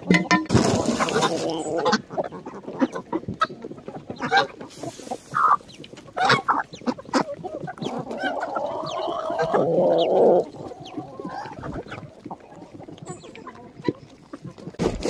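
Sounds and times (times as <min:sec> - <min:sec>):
beaks pecking ground: 0:00.0 - 0:15.0
hens clucking: 0:00.0 - 0:15.0.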